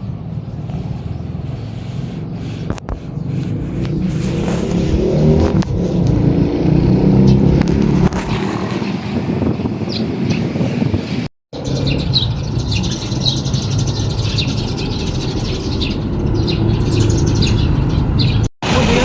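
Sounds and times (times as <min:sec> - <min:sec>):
small birds chirping: 0:00.0 - 0:06.1, 0:07.1 - 0:08.9, 0:11.6 - 0:19.0
low rumble of vehicles: 0:00.0 - 0:19.0.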